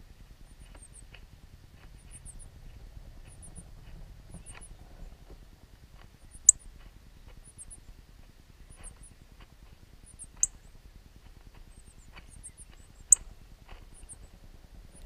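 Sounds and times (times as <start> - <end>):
nestlings peeping: 0.4 - 5.1, 6.2 - 8.0, 8.6 - 9.2, 10.0 - 15.0.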